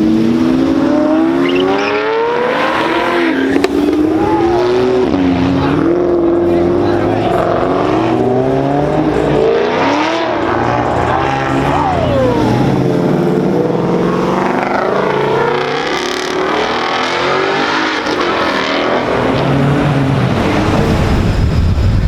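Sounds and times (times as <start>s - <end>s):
car engines revving and accelerating: 0.0s - 22.0s.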